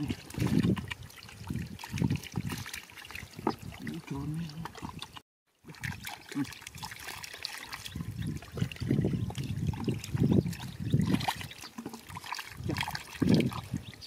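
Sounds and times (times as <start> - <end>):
hands splashing in muddy water: 0.0 - 13.9.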